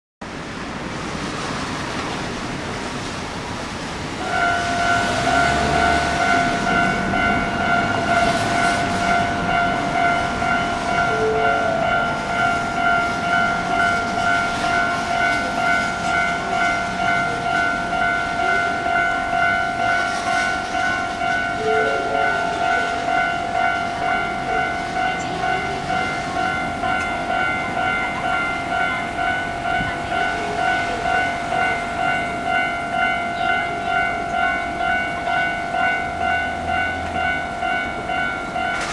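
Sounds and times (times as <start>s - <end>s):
level crossing bell ringing: 4.2s - 38.9s.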